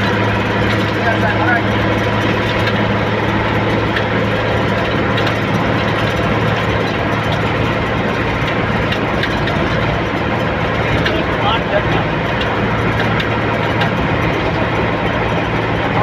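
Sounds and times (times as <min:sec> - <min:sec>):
road noise: 0:00.0 - 0:16.0
vehicle engine humming: 0:00.0 - 0:16.0.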